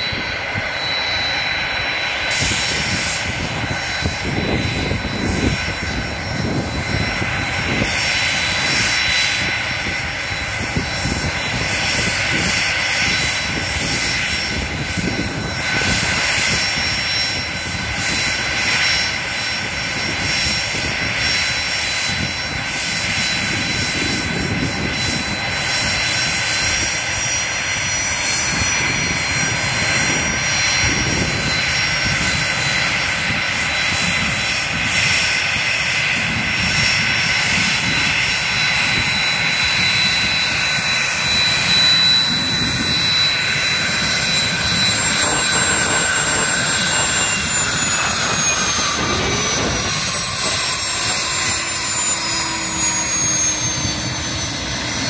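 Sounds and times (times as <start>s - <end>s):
high-pitched turbine whine: 0.0s - 55.0s
jet engines rushing: 0.0s - 55.0s.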